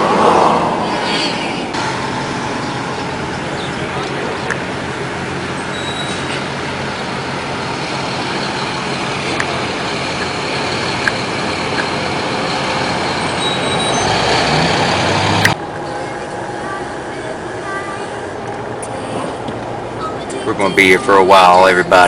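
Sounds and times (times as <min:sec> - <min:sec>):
vehicle road noise rushing: 0:00.0 - 0:22.0.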